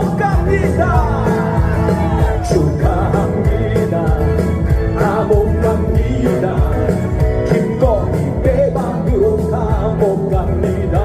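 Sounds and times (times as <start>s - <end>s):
song with band and drum beat: 0.0s - 11.0s.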